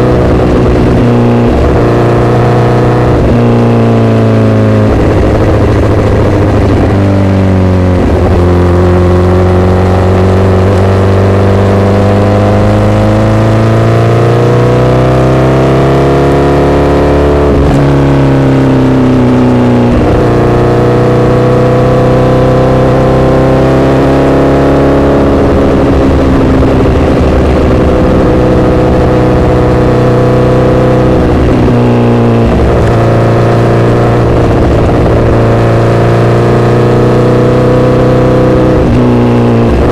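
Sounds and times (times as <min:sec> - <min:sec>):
loud motorcycle engine revving: 0:00.0 - 0:39.9.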